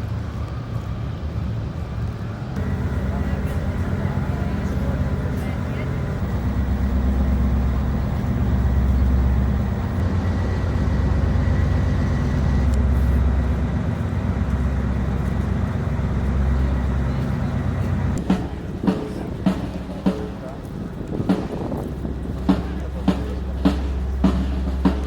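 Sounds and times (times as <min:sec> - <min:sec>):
military vehicle diesel engines: 0:00.0 - 0:25.0.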